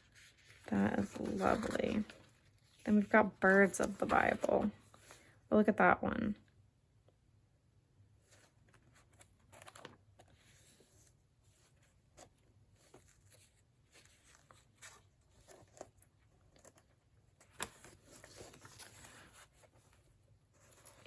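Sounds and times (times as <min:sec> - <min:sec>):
book pages turning: 0:00.0 - 0:05.4, 0:08.2 - 0:21.0.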